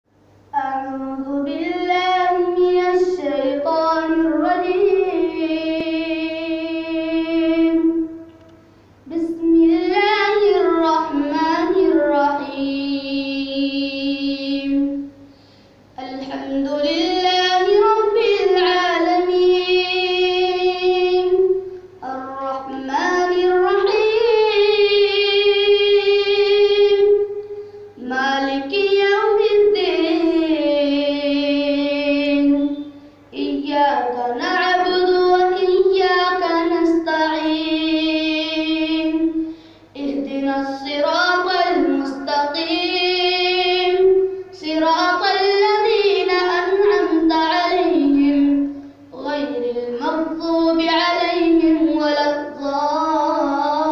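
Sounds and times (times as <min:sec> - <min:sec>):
faint steady hum: 0:00.1 - 0:53.9
boy singing unaccompanied: 0:00.5 - 0:08.3, 0:09.0 - 0:15.2, 0:16.0 - 0:53.9.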